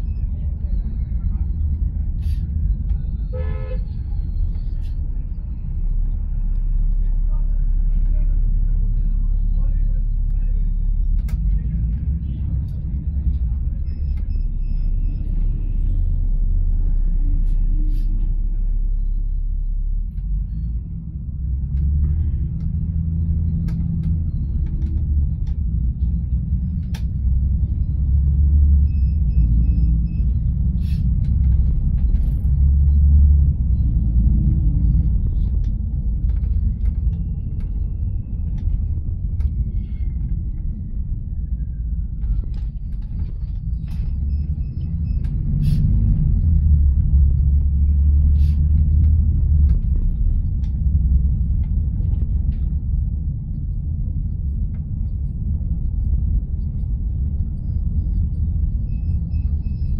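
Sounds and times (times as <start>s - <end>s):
vehicle rumble from inside: 0.0s - 59.9s.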